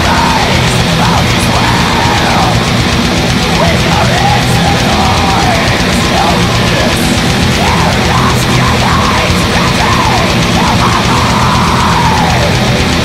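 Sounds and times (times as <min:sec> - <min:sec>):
black metal music: 0:00.0 - 0:13.0.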